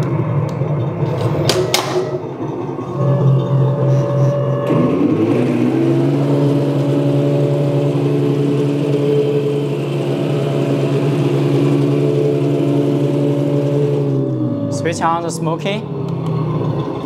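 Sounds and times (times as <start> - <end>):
simulated tank engine: 0.0 - 17.0.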